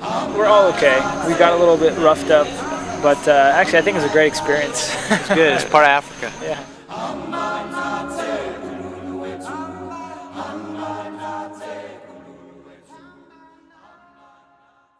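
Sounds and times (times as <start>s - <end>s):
voices singing a cappella: 0.0s - 14.9s.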